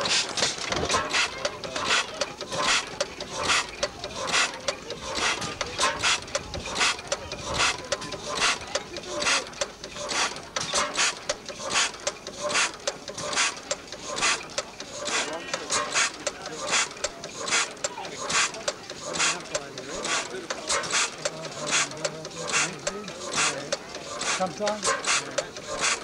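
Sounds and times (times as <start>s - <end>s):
stationary engine clacking: 0.0s - 26.0s.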